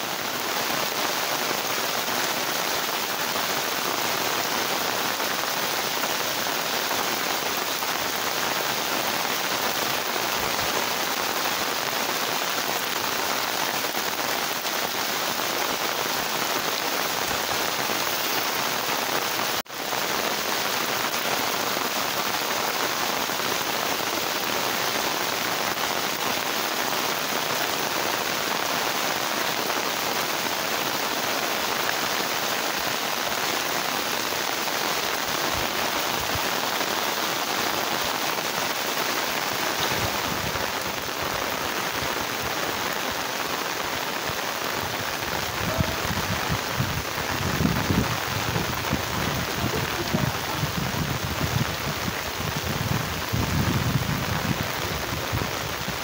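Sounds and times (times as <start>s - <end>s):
heavy rain on trees and puddles: 0.0s - 56.0s.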